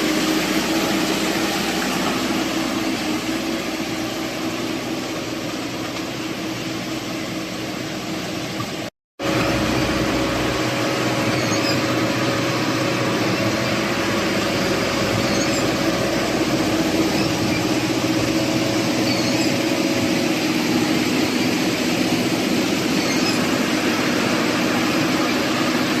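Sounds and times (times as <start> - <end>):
machine engine humming: 0.0 - 26.0.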